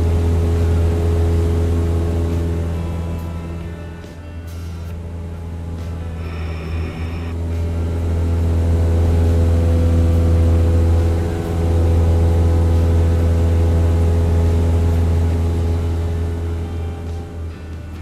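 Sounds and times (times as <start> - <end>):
low engine-like drone: 0.0 - 18.0.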